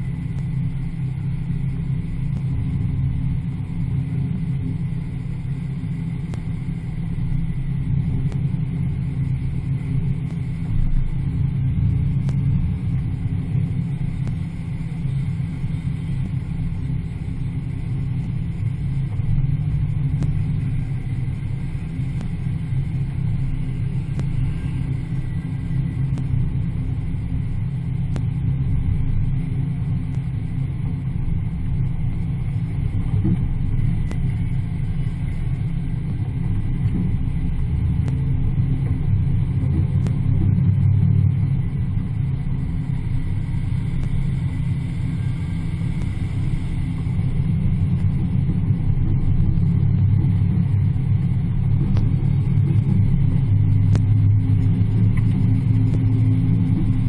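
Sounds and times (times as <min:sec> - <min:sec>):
car engine running steadily: 0:00.0 - 0:57.0.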